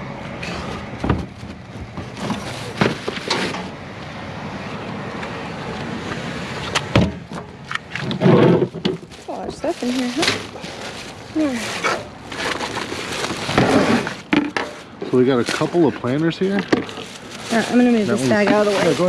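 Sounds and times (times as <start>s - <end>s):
trash bags rustling and knocking: 0.3s - 3.8s, 6.9s - 19.0s.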